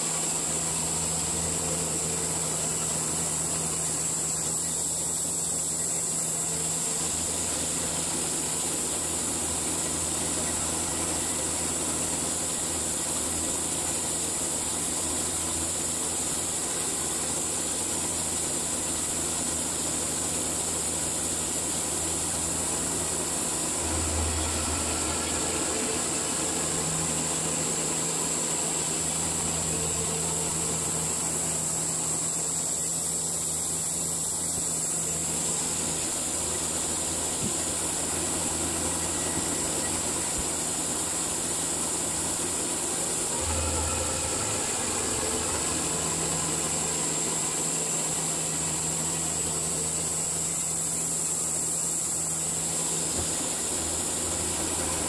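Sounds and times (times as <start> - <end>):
band sawmill running: 0.0 - 55.0.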